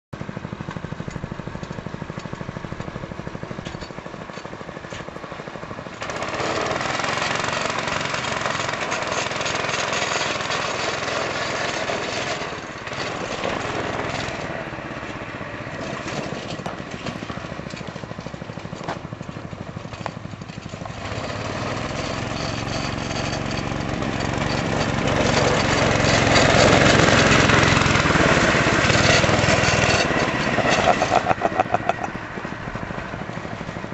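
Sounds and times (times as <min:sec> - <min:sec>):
go-kart engine running: 0:00.2 - 0:33.9.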